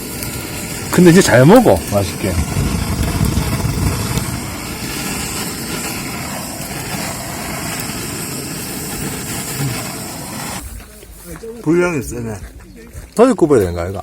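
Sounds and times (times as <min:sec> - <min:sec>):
fish sizzling on a grill: 0:00.0 - 0:11.8.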